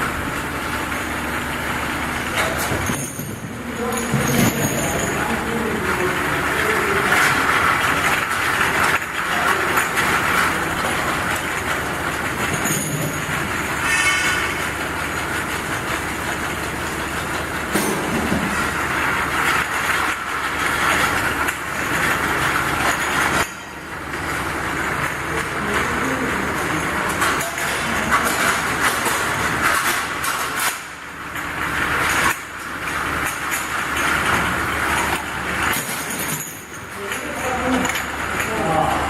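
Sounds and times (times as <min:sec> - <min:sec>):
bottle washing machine running: 0:00.0 - 0:39.0.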